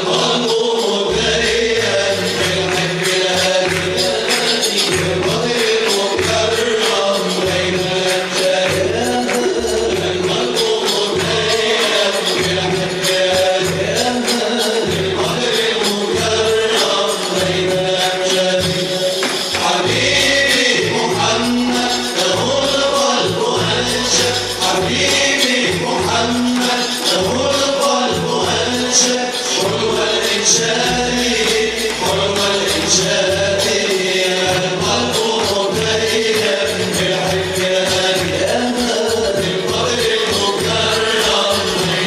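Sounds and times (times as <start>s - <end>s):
ensemble chanting together: 0.0s - 42.0s
frame drums and tambourine beat: 0.0s - 42.0s.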